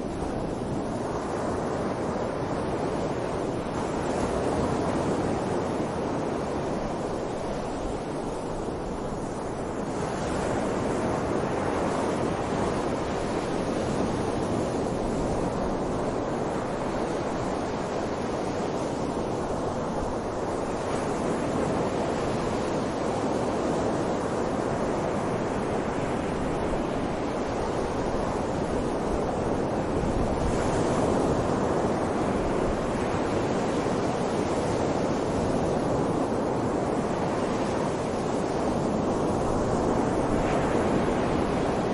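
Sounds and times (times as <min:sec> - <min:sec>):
strong wind blowing: 0:00.0 - 0:41.9.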